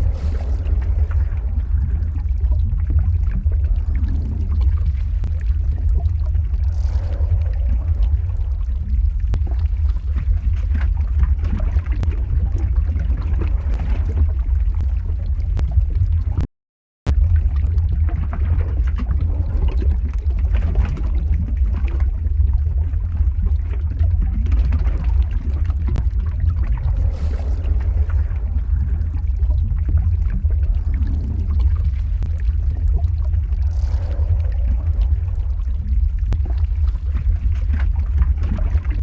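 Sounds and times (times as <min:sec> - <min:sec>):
lava crackles: 0:00.0 - 0:16.5, 0:17.1 - 0:39.0
lava deep rumble: 0:00.0 - 0:16.5, 0:17.1 - 0:39.0.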